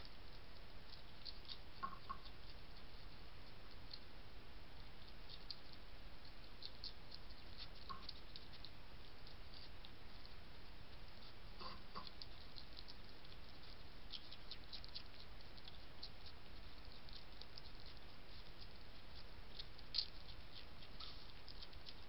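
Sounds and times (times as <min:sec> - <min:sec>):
hedgehog crunching kibble: 0:00.0 - 0:04.1, 0:04.8 - 0:22.0.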